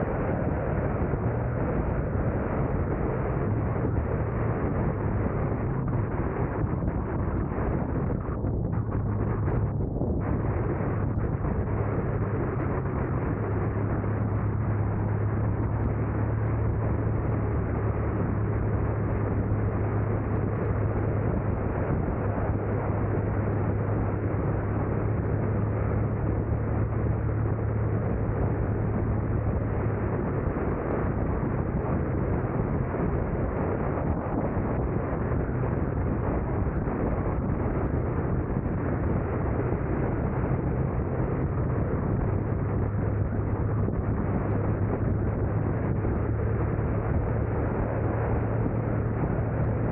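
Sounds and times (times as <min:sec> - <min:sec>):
car road and engine noise: 0:00.0 - 0:49.9.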